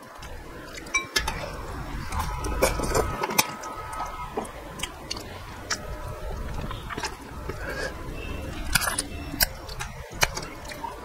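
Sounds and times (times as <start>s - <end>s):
wet squishing and smacking: 0.2s - 11.0s.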